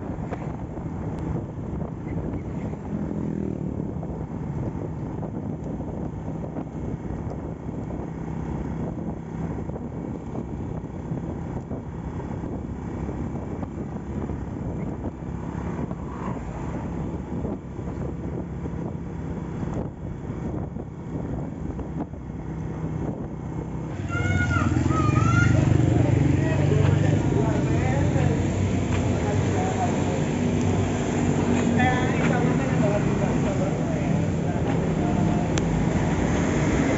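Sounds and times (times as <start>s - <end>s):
wind rushing over microphone: 0.0s - 36.9s.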